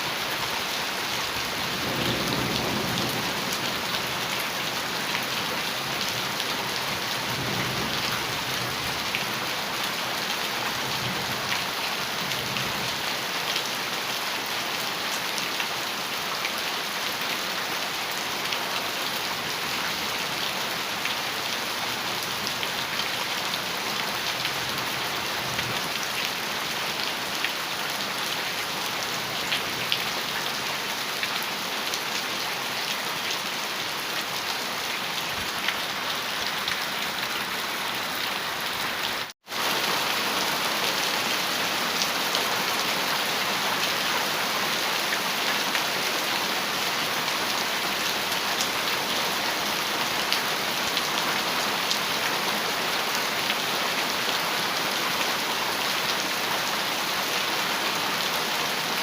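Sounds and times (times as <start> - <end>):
heavy rain on a metal roof: 0.0 - 59.0.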